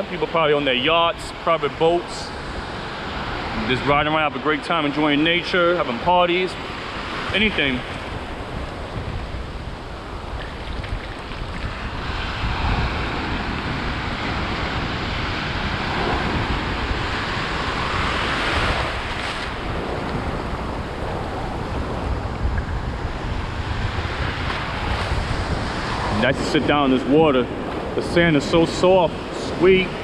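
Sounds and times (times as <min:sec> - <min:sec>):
ocean surf washing: 0:00.0 - 0:30.0
wind buffeting the microphone: 0:00.0 - 0:30.0.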